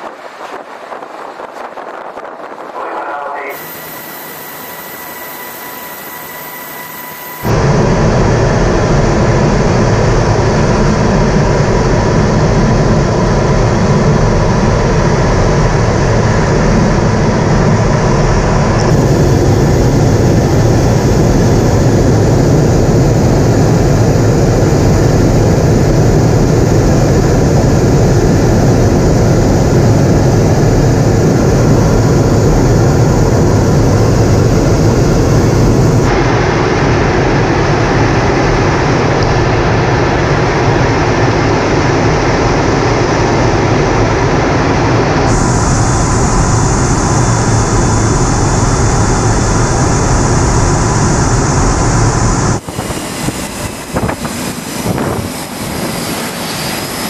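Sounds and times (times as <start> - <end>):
aircraft cabin engine noise: 0.0 - 57.0.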